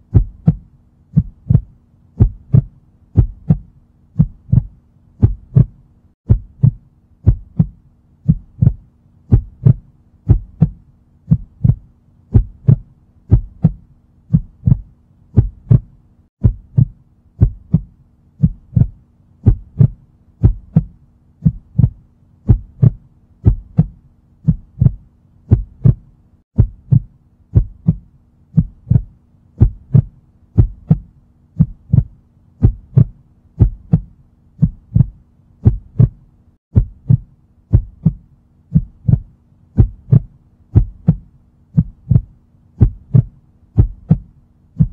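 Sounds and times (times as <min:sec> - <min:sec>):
faint steady hum: 0:00.0 - 0:44.9
heartbeat double thump: 0:00.0 - 0:44.9.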